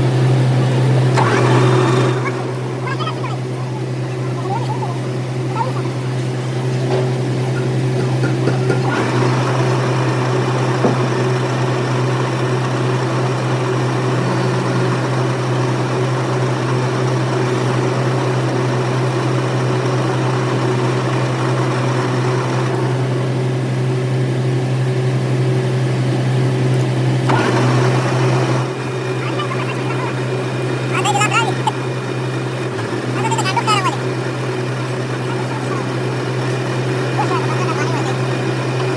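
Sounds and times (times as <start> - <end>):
machine humming with whirr: 0.0 - 38.9.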